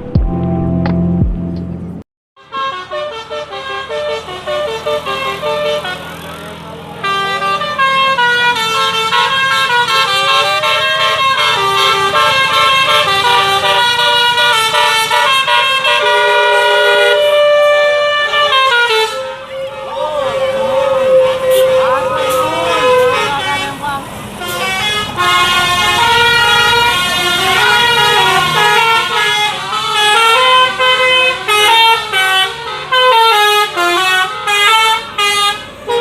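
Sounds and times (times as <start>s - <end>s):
multi-tone bus horn melody: 2.4s - 36.0s.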